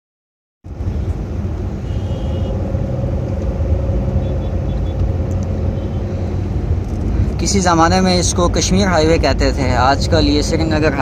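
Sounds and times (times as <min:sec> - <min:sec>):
car engine and tyre rumble: 0:00.6 - 0:11.0.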